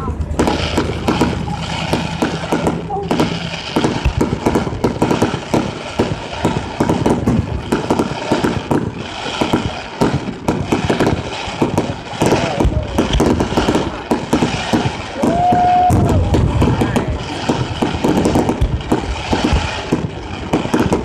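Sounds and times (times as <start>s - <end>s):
crowd voices: 0.0s - 21.0s
fireworks bangs and crackles: 0.0s - 21.0s.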